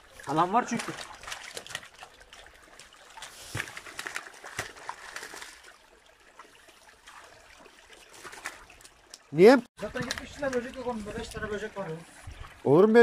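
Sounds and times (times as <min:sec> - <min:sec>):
water slaps and splashes: 0:00.0 - 0:12.7
water trickling: 0:00.0 - 0:13.0.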